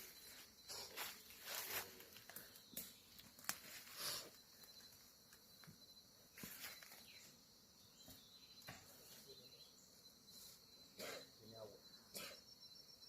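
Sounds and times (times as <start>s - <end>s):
high insect trill: 0.0s - 13.0s.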